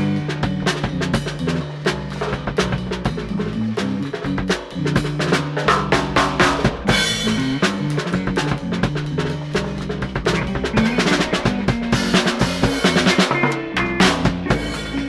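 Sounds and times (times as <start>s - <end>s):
drum kit playing: 0.0s - 15.0s
electric guitar: 0.0s - 15.0s
walking bass line: 0.0s - 15.0s.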